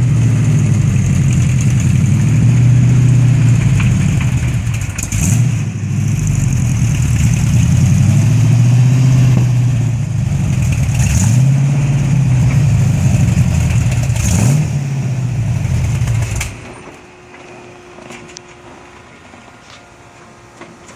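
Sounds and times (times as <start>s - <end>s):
engine running and revving: 0.0s - 18.2s.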